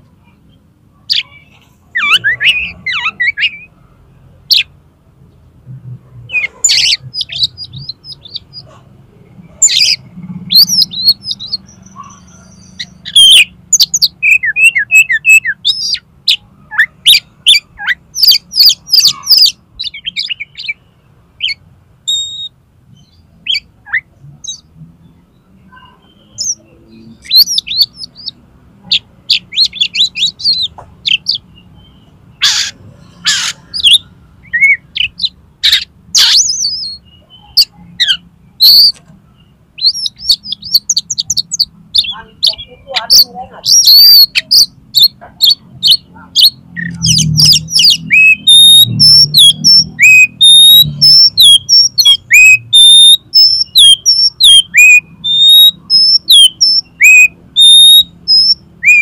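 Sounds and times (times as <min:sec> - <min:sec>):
bird singing with whistles and trills: 0:01.1 - 0:03.7, 0:04.5 - 0:04.7, 0:06.3 - 0:08.7, 0:09.5 - 0:59.0.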